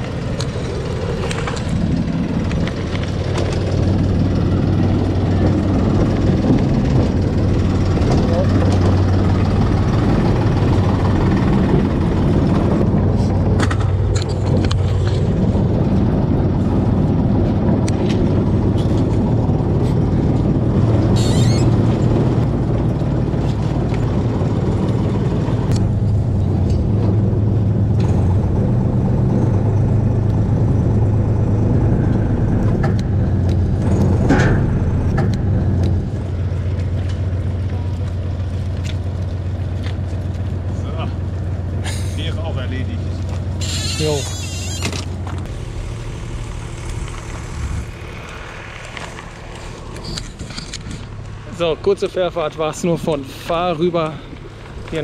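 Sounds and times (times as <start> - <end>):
ferry engine humming: 0.0 - 55.0.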